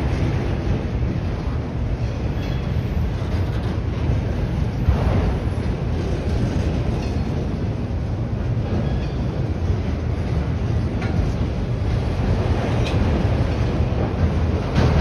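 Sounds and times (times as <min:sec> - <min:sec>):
train car clank: 0:00.0 - 0:15.0
train wheels rumbling on rail: 0:00.0 - 0:15.0.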